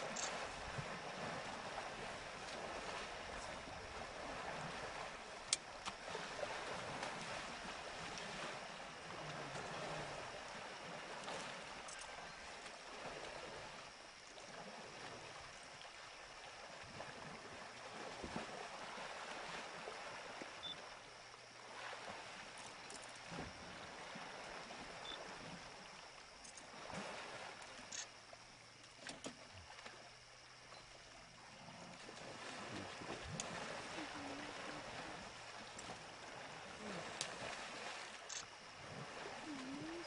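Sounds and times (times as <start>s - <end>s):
water sloshing and splashing: 0.0s - 40.0s.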